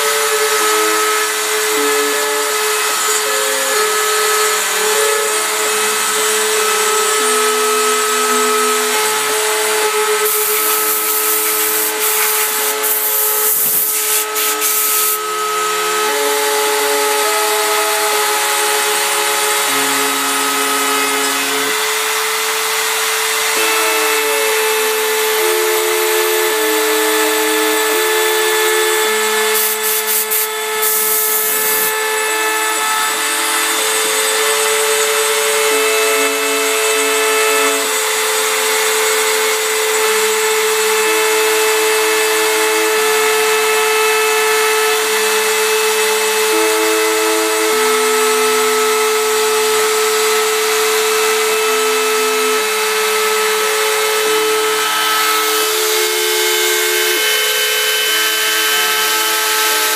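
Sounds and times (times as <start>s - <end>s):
router spindle humming: 0.0s - 59.9s
stepper motors whining: 0.0s - 59.9s.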